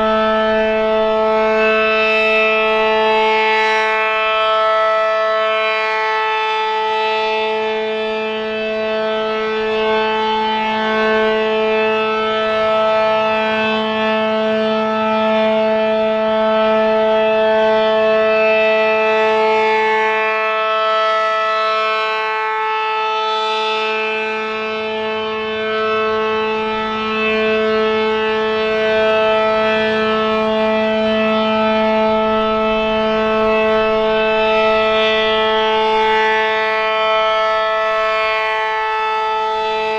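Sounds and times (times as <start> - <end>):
siren dual-tone chord: 0.0 - 39.9.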